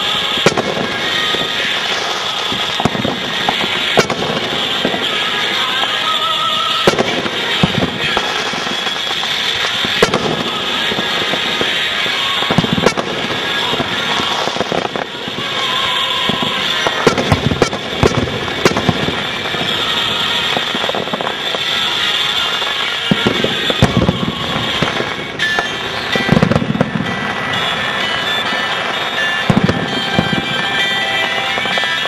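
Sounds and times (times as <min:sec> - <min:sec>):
fireworks booming: 0:00.0 - 0:32.0
fireworks crackling: 0:00.0 - 0:32.0.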